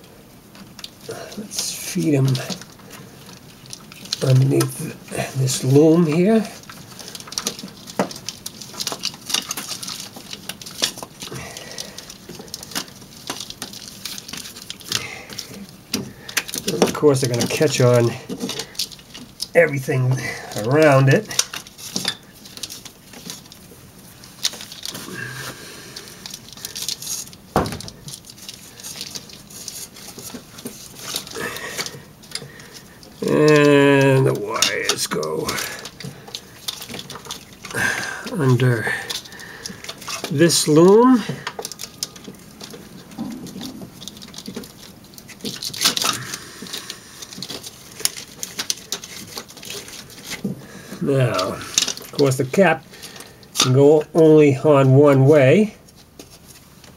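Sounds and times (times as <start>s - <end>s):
rustling of wires being handled: 0.0s - 56.9s.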